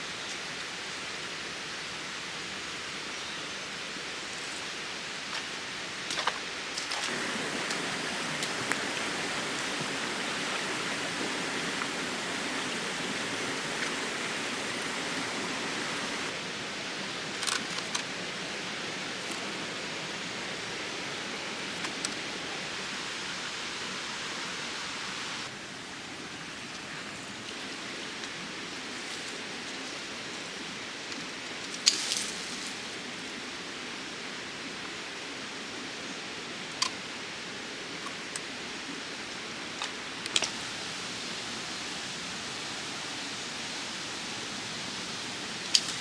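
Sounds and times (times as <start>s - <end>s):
stream water flowing: 0.0s - 46.0s.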